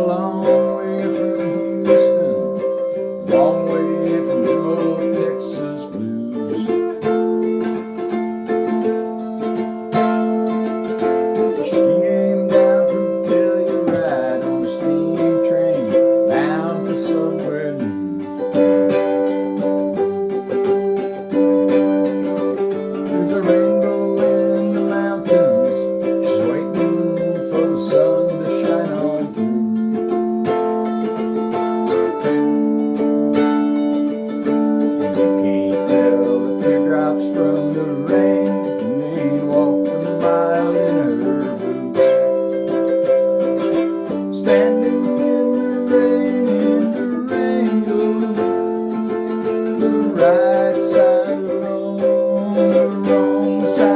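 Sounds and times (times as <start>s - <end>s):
plucked stringed instrument: 0.0s - 53.9s.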